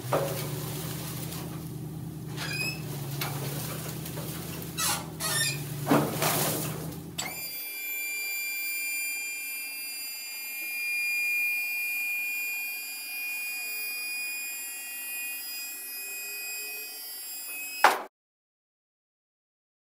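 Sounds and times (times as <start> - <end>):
hydraulic pump whining: 0.0 - 18.0.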